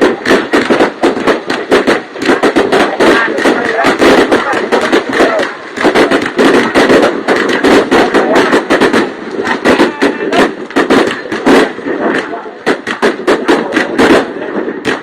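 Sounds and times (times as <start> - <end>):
crowd voices: 0.0 - 15.0
fireworks bursting and crackling: 0.0 - 15.0.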